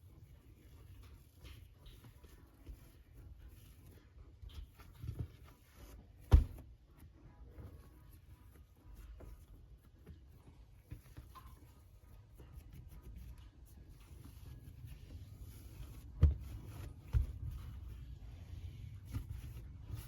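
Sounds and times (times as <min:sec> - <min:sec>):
hands patting dough on a counter: 0:00.1 - 0:20.0.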